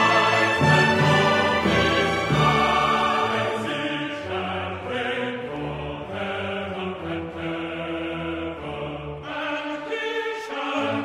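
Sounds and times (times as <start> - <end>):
choir singing held notes: 0.0 - 11.0.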